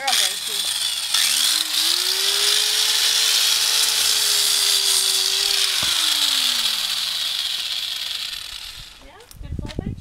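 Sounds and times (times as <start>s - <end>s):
angle grinder motor whine: 0.0s - 9.1s
gritty grinding hiss: 0.0s - 9.5s.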